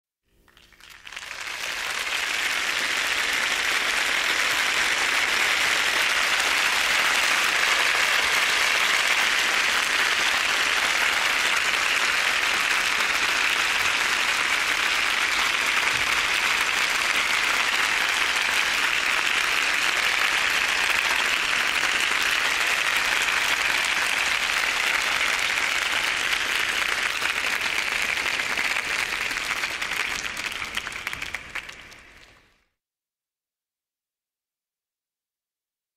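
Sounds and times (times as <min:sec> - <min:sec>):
audience applauding: 0:00.5 - 0:32.5.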